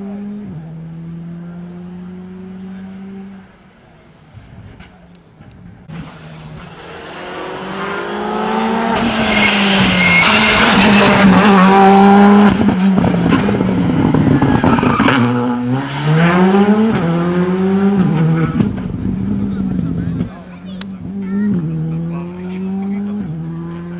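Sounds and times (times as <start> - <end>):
rally car engine shifting gears: 0.0 - 3.7, 4.4 - 23.9.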